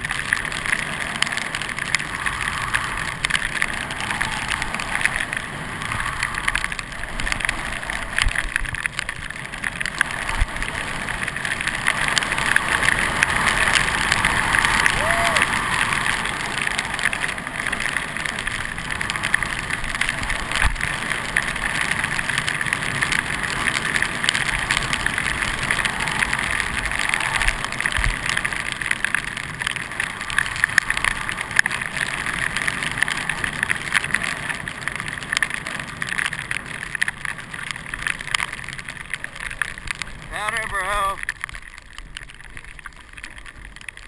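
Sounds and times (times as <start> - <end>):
skis sliding on packed snow: 0.0 - 44.0.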